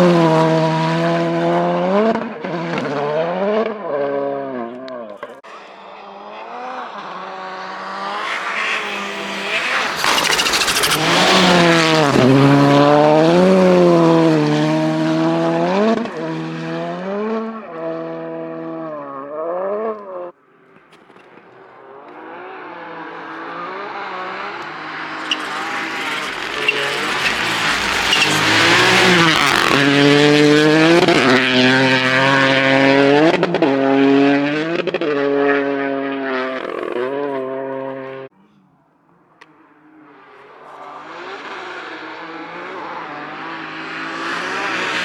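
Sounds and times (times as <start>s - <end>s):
rally car engine revving: 0.0s - 20.4s, 21.0s - 38.6s, 39.4s - 45.0s
second car approaching: 0.0s - 38.3s.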